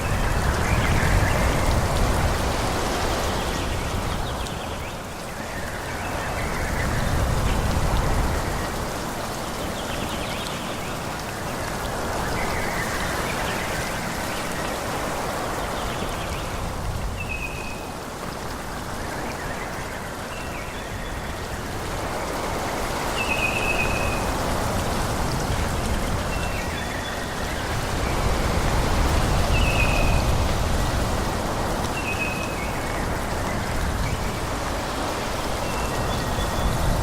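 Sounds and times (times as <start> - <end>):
wind through trees: 0.0 - 37.0.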